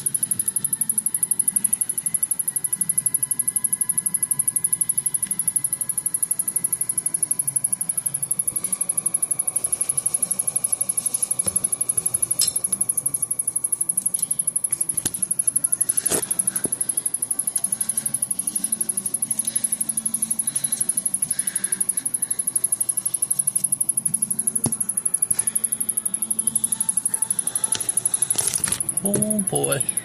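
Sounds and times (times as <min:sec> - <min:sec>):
high-pitched ticking: 0:00.0 - 0:30.0.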